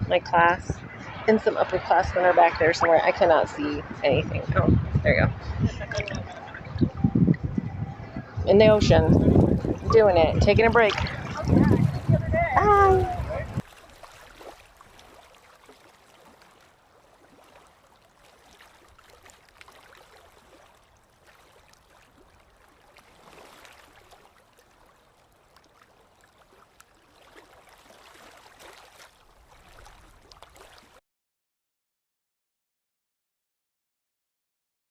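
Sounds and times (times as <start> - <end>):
faint ocean surf: 0.0 - 6.7, 8.1 - 31.0.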